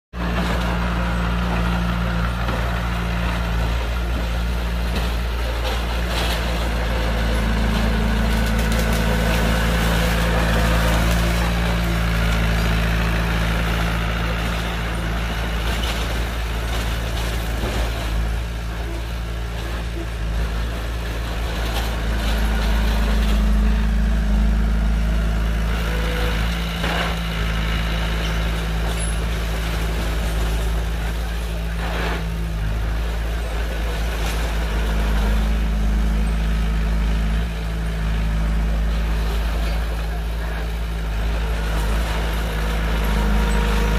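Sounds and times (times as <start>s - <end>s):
diesel engine running: 0.1s - 43.9s.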